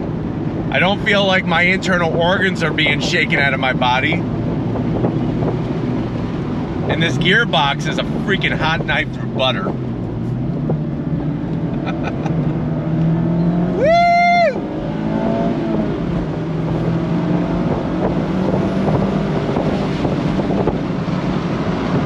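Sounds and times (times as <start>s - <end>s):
car engine running: 0.0s - 22.0s
road noise: 0.0s - 22.0s.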